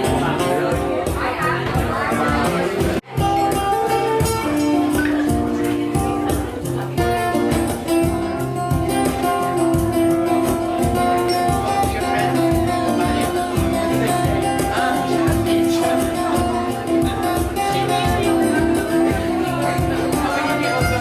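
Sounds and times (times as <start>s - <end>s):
guitar playing: 0.0s - 21.0s
steady beat: 0.0s - 21.0s.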